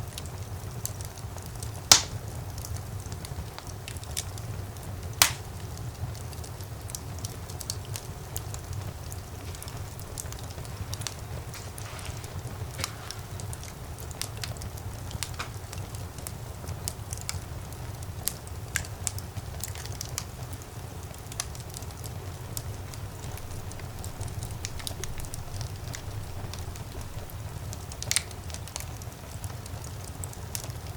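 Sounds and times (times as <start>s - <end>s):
fire crackling and popping: 0.0s - 30.9s
low rumble of flames: 0.0s - 30.9s.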